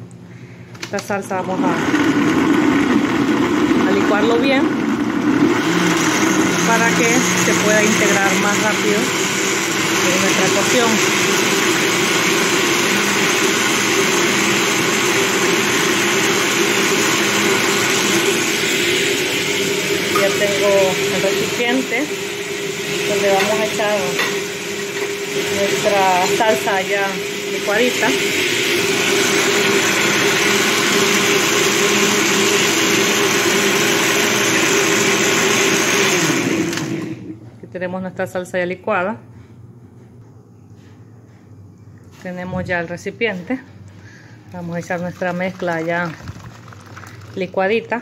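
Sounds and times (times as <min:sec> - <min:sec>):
blender motor whirring: 0:01.4 - 0:37.3, 0:44.5 - 0:48.0.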